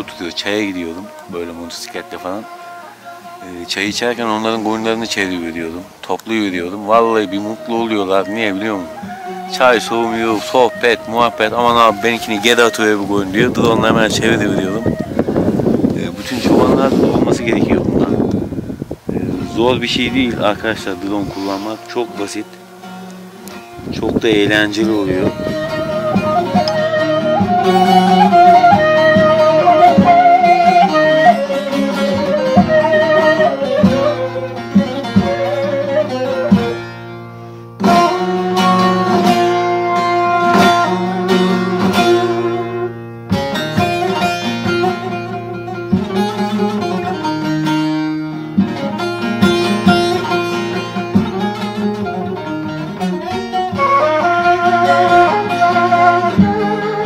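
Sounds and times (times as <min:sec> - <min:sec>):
plucked string melody: 0:00.0 - 0:57.0.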